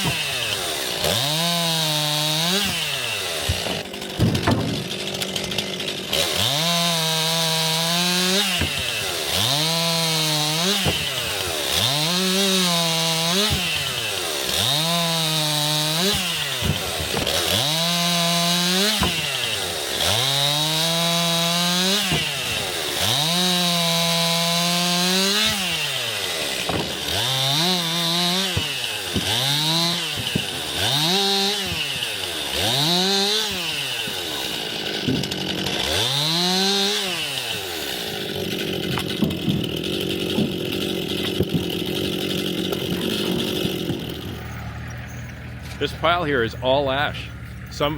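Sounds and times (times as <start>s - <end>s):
chainsaw cutting logs: 0.0s - 47.9s.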